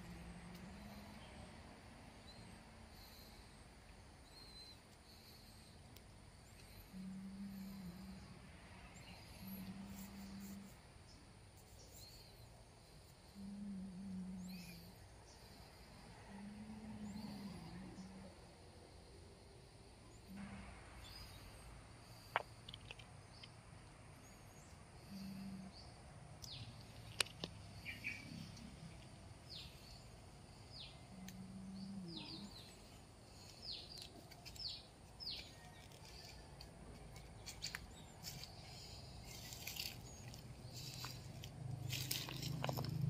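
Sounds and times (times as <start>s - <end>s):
small birds chirping: 0.1s - 16.0s, 21.0s - 43.0s.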